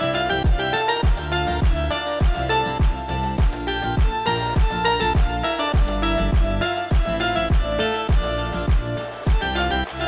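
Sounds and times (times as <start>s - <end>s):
steady deep beat: 0.0s - 9.8s
held melodic notes: 0.0s - 10.0s.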